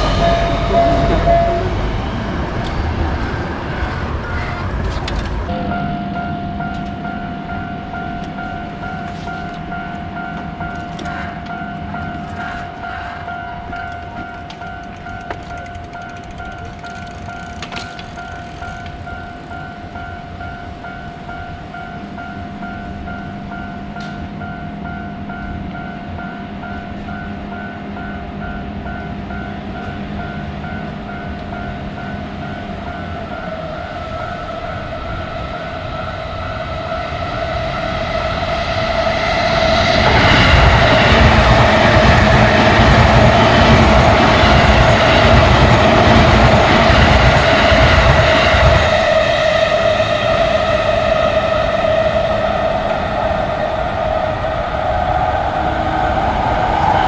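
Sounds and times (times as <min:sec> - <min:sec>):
level crossing bell clanging: 0:00.0 - 0:02.4, 0:05.5 - 0:53.5
electric train passing: 0:00.0 - 0:57.0.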